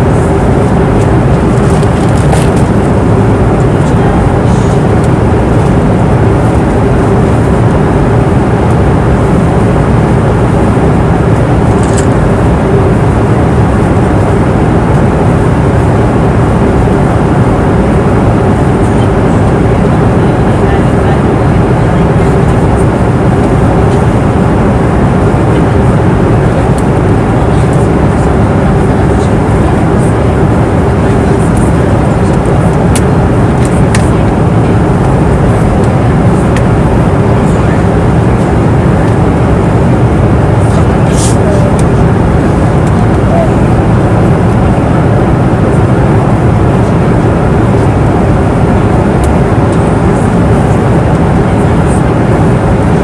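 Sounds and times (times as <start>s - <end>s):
airplane cabin rushing noise: 0.0s - 53.0s
low hum: 0.0s - 53.0s.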